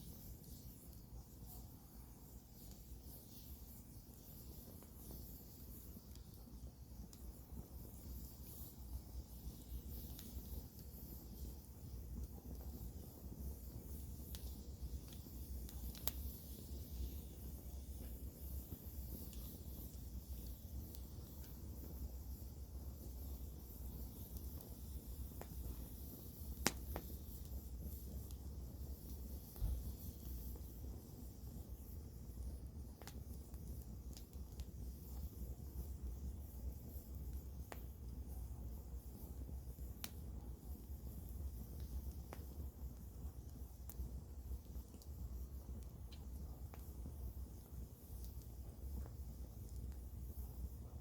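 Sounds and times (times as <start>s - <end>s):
campfire crackling and popping: 0.0s - 51.0s
soft hiss of burning: 0.0s - 51.0s.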